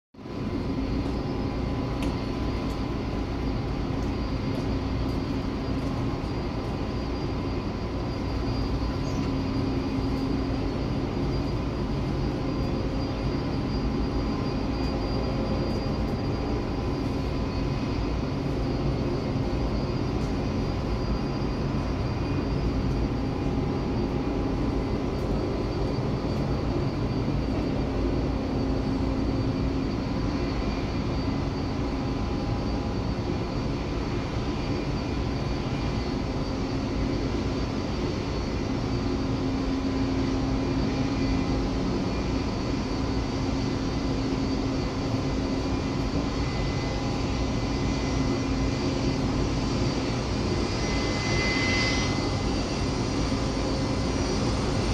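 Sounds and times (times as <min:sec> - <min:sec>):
jet turbine whine: 0:00.2 - 0:54.9.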